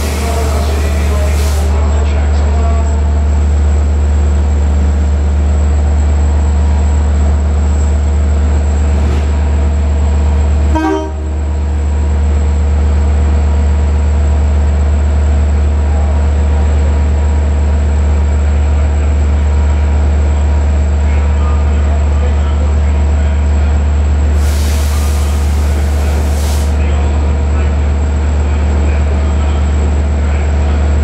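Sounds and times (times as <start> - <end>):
diesel locomotive idling: 0.0 - 31.0.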